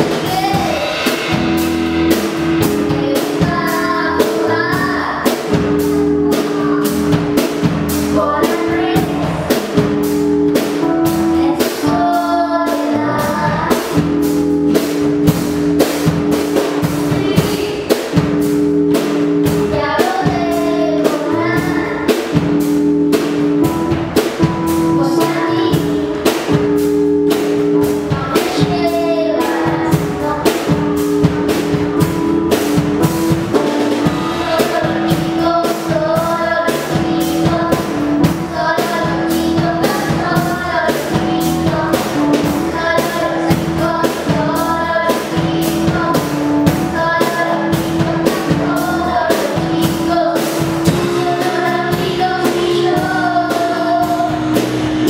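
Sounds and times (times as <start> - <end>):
girl singing: 0.0 - 1.5, 2.2 - 15.5, 16.4 - 54.6
drum kit beat: 0.0 - 55.0
keyboard chords: 0.0 - 55.0.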